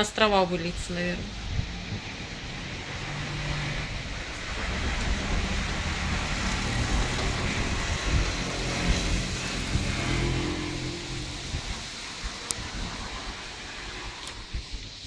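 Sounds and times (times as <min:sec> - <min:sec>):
gusting wind: 0:00.0 - 0:15.0
cars passing: 0:00.9 - 0:14.5.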